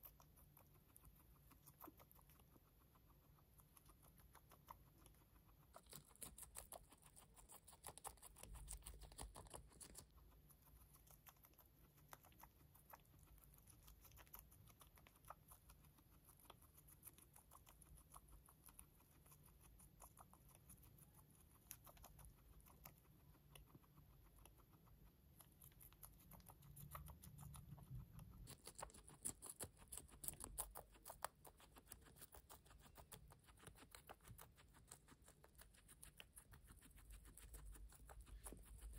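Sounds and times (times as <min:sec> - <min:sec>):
guinea pig crunching lettuce: 0:00.0 - 0:38.9.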